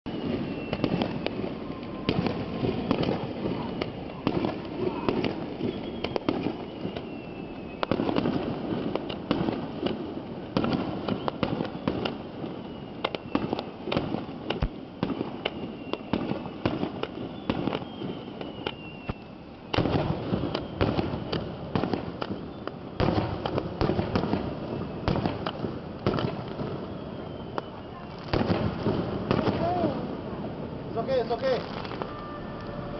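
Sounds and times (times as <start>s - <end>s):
fireworks bangs and crackling: 0.1s - 32.9s.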